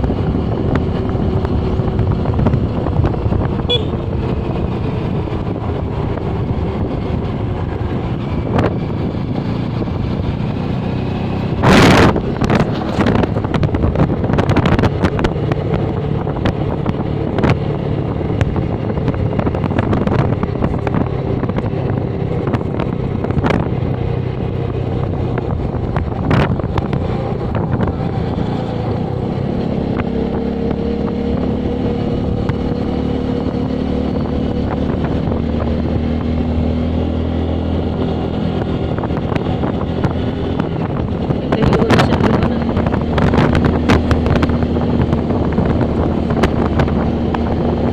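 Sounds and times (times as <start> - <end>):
motorcycle engine running: 0.0 - 47.9
wind buffeting microphone: 0.0 - 47.9.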